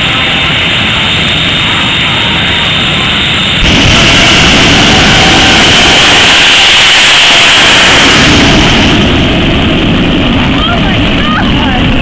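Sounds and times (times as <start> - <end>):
jet engine roaring: 0.0 - 12.0.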